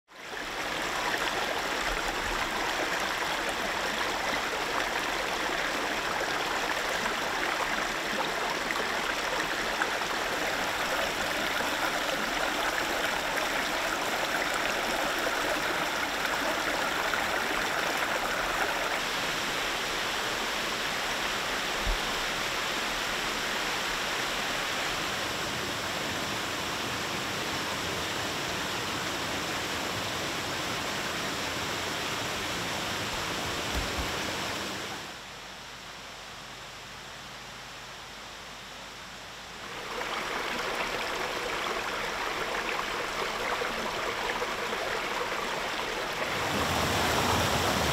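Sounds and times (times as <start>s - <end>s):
stream flowing over stones: 0.1s - 35.2s, 39.6s - 47.9s.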